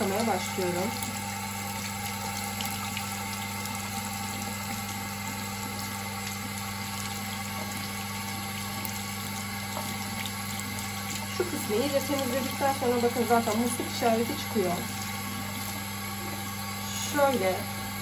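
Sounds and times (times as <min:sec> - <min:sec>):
water running from tap: 0:00.0 - 0:18.0
water splashing over filter: 0:00.0 - 0:18.0.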